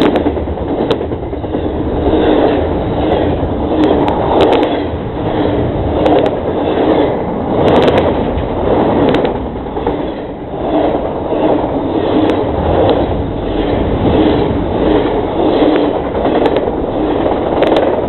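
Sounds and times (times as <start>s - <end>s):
freight train cars clattering: 0.0s - 18.0s.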